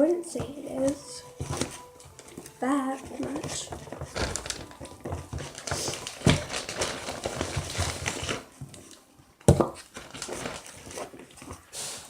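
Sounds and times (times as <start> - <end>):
objects crinkling and rustling: 0.0 - 12.0.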